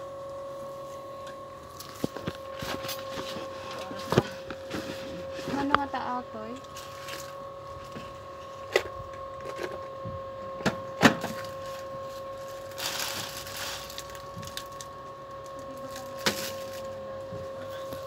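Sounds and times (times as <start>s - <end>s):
high-pitched hum: 0.0s - 18.0s.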